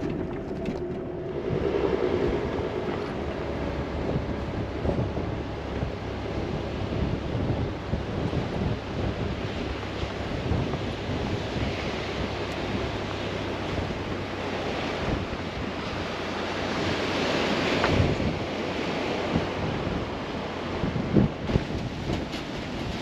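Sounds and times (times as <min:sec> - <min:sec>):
low wind thumps: 0:00.0 - 0:23.0
strong wind buffeting microphone: 0:00.0 - 0:23.0
surf breaking on beach: 0:00.0 - 0:23.0.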